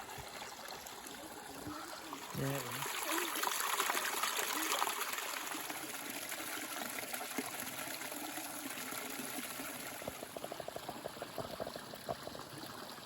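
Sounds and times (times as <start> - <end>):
stream water trickling: 0.0 - 13.0.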